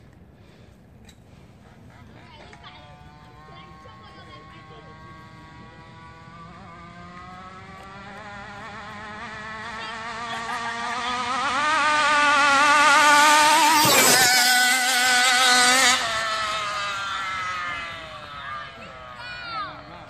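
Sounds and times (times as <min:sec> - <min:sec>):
rc car two-stroke engine: 0:01.8 - 0:20.0.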